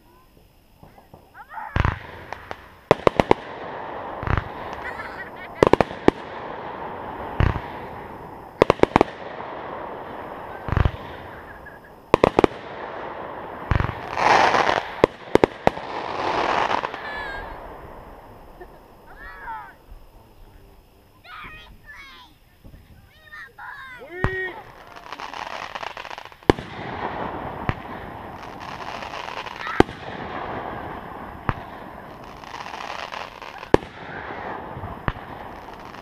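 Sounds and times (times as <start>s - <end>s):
fireworks bursting: 0.0s - 36.0s
fireworks crackling: 0.0s - 36.0s.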